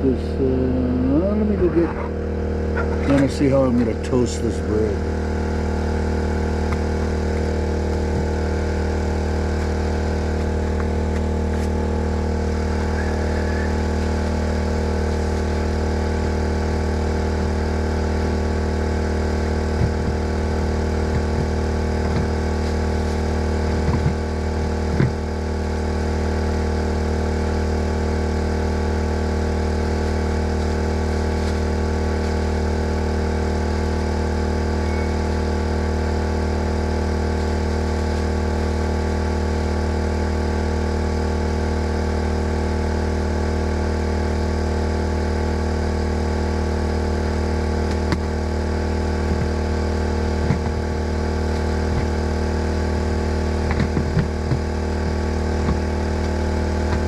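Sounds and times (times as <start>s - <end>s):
portable generator engine running: 0.0s - 57.0s.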